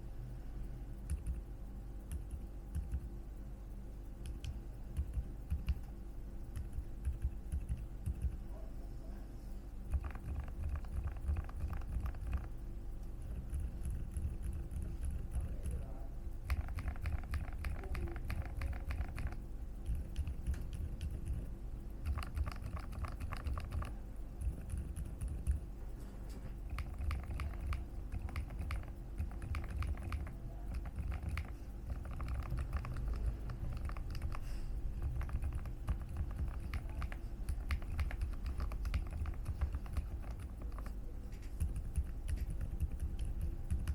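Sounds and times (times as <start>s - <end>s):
muted keyboard keystrokes: 1.0s - 1.4s, 2.0s - 3.1s, 4.2s - 8.4s, 9.9s - 12.5s, 13.1s - 25.7s, 26.6s - 43.9s.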